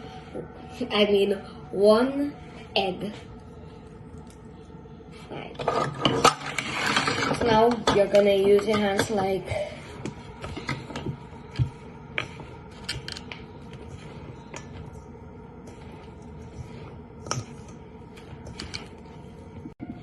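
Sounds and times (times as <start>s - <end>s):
hands mixing dough: 0.0s - 20.0s
steady low hum: 0.0s - 20.0s.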